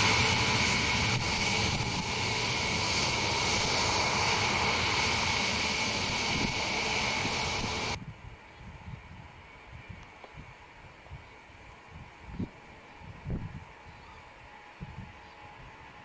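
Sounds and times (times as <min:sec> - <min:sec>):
jet engine roar with whine: 0:00.0 - 0:16.0.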